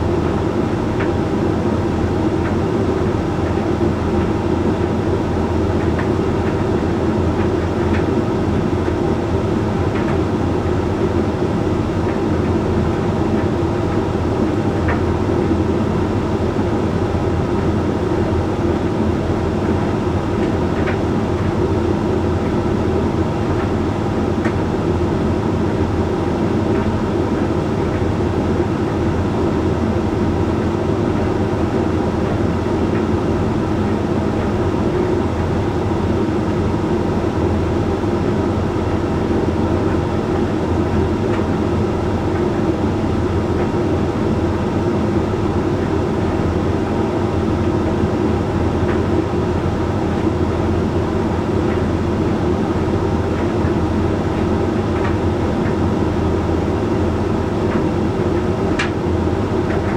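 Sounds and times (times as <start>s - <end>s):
tumble dryer hum and rumble: 0.0s - 59.9s.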